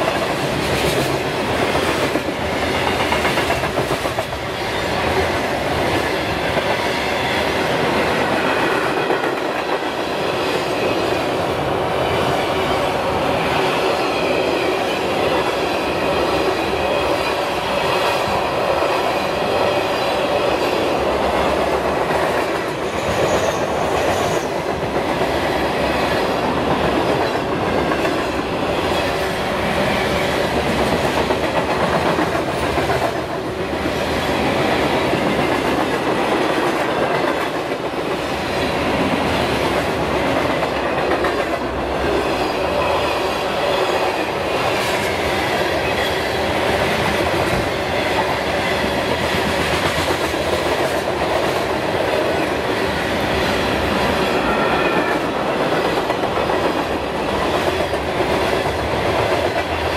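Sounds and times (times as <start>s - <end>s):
steel wheels rolling on rail: 0.0s - 59.9s.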